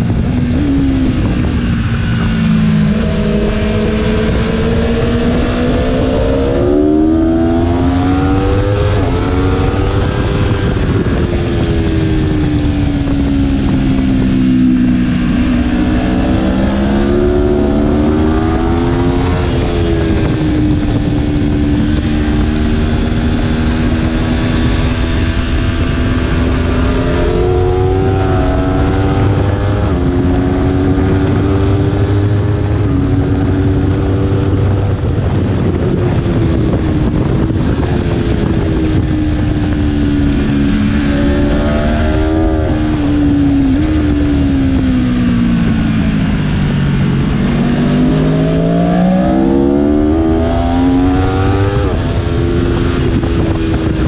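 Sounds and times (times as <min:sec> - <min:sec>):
motorcycle engine revving through gears: 0:00.0 - 0:54.0.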